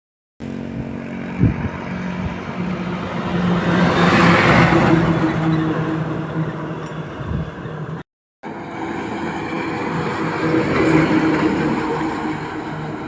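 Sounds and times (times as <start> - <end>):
truck passing by: 0.4 - 13.0.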